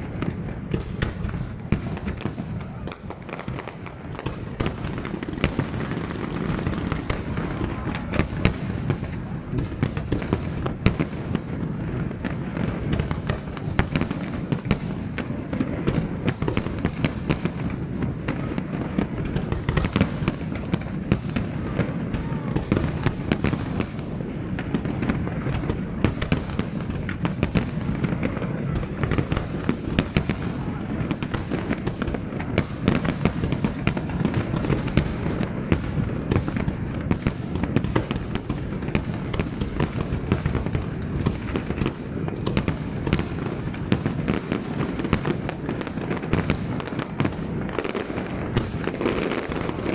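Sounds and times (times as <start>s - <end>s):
fireworks bursting and crackling: 0.0s - 49.9s.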